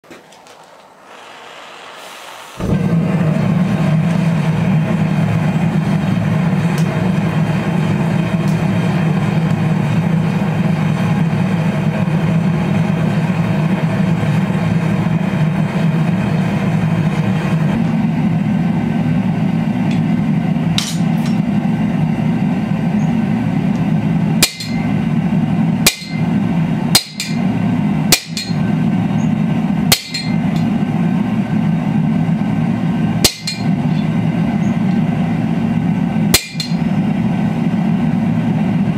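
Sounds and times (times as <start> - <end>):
gas forge burner rushing: 0.0 - 38.9.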